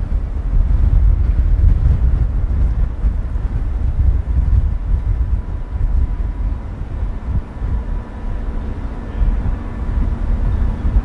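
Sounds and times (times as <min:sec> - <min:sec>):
blizzard wind buffeting microphone: 0:00.0 - 0:11.0.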